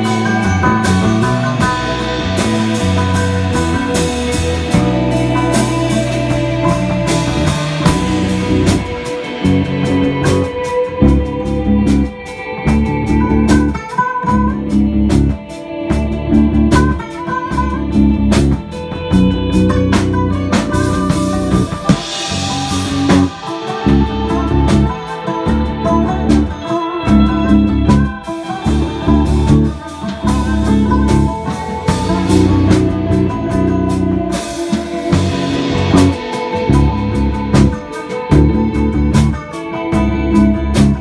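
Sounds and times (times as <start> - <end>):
cigar-box guitar: 0.0 - 41.0
drum kit with cymbals: 0.0 - 41.0
electric bass low notes: 0.0 - 41.0
electric guitar: 0.0 - 41.0.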